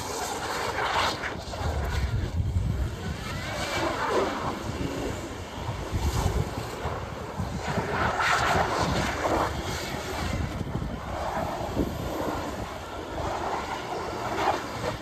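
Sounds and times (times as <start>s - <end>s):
low rumble with rushing noise: 0.0s - 15.0s.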